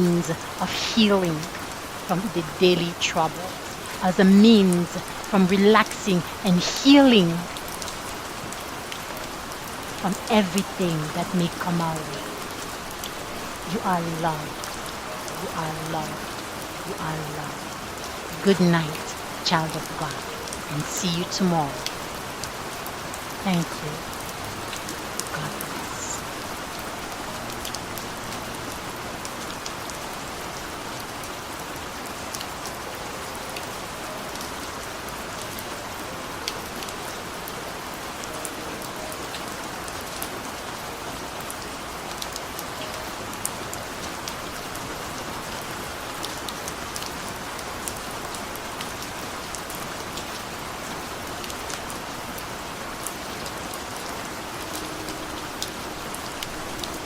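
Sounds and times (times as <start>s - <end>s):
raindrops ticking on a surface: 0.0s - 57.0s
steady rain hiss: 0.0s - 57.0s.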